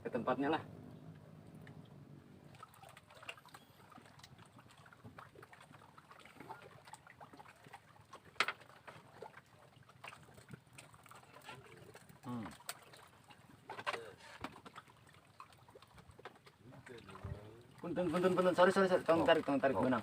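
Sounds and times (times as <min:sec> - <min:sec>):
faint water lapping: 0:00.0 - 0:20.0.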